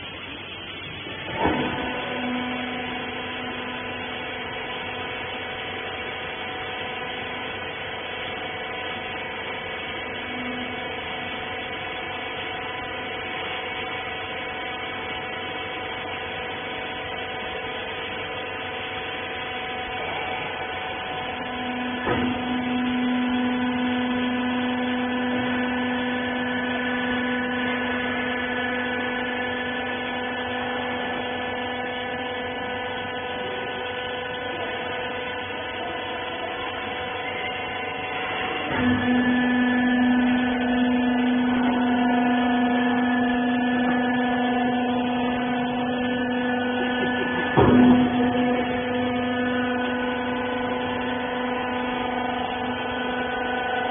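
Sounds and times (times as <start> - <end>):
baler motor humming: 0.0 - 53.9.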